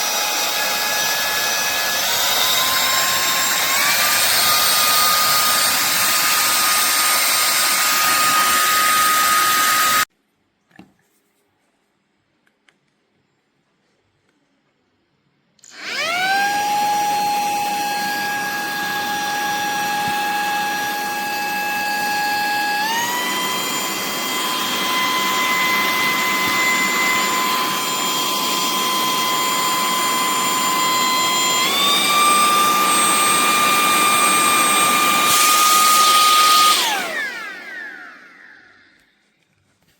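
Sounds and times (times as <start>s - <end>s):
handheld vacuum cleaner whine: 0.0s - 10.1s, 15.6s - 39.4s.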